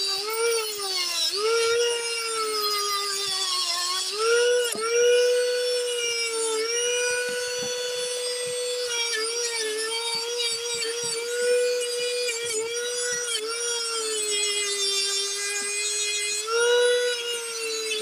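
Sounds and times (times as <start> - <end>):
rotary tool motor whine: 0.0 - 18.0.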